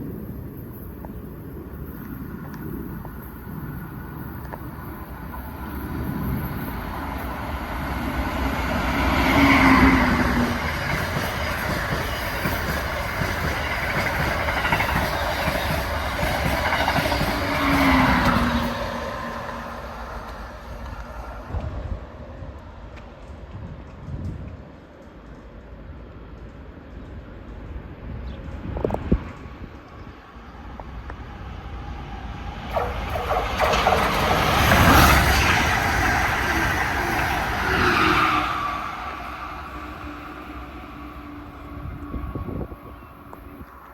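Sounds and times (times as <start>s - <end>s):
train passing at speed: 0.0s - 43.9s.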